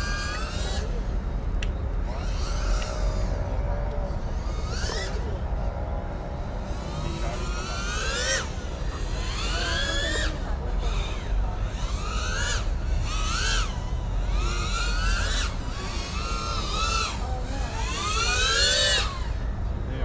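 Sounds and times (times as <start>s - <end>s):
steady low rumble: 0.0s - 18.1s, 19.1s - 20.0s
quadcopter motors whining: 0.0s - 20.0s.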